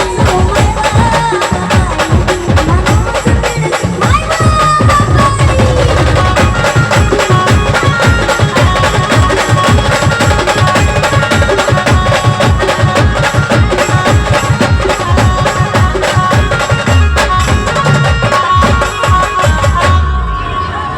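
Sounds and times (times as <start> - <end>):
band music with fast drumming: 0.0 - 20.1.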